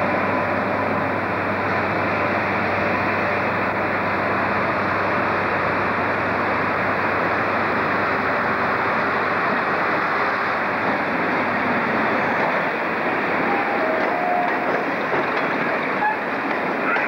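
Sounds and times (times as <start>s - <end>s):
diesel train rumbling slowly: 0.0s - 17.0s.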